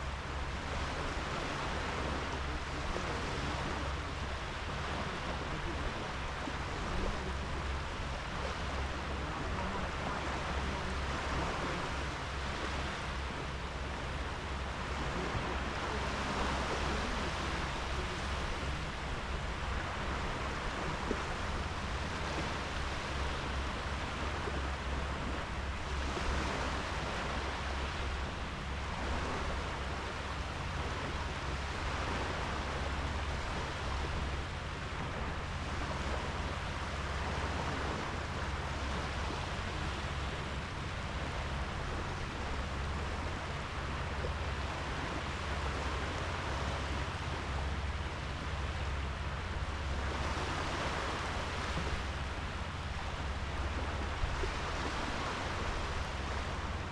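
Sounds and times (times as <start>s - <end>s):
small waves washing onto sand: 0.0s - 56.9s.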